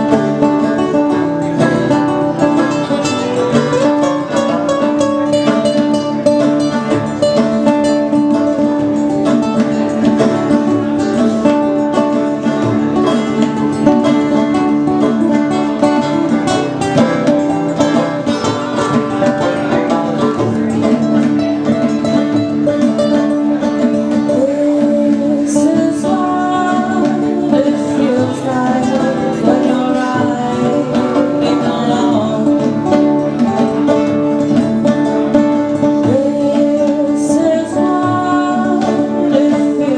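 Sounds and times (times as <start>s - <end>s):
banjo playing: 0.0s - 39.9s
classical guitar plucked: 0.0s - 39.9s.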